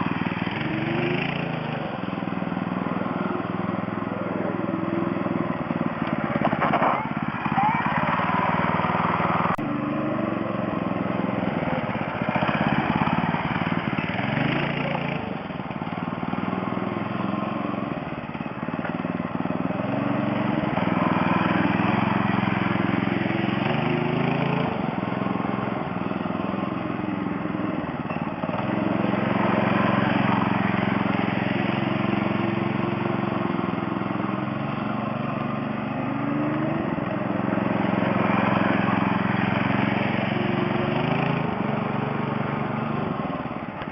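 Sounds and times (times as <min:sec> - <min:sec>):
go-kart engine revving: 0:00.0 - 0:43.9.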